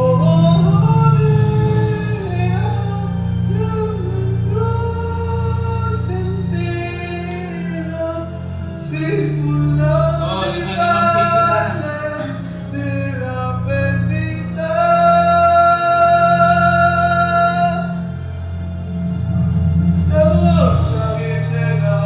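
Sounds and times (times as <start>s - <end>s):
man singing: 0.0s - 18.1s, 20.1s - 22.0s
backing track with bass line: 0.0s - 22.0s.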